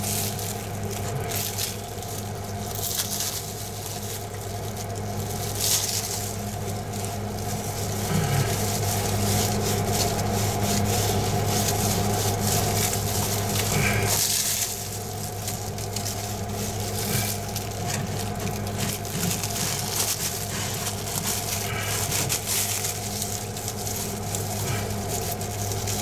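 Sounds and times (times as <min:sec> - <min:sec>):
paint roller scraping: 0:00.0 - 0:26.0
steady low hum: 0:00.0 - 0:26.0.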